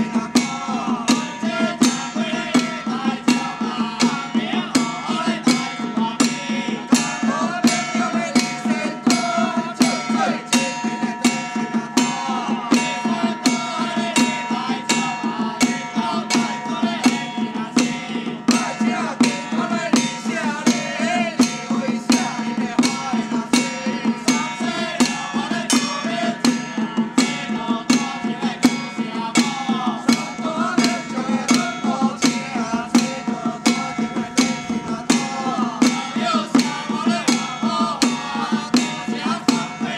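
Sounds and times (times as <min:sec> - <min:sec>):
hand drums beaten with sticks: 0:00.0 - 0:39.9
men chanting in unison: 0:00.0 - 0:39.9.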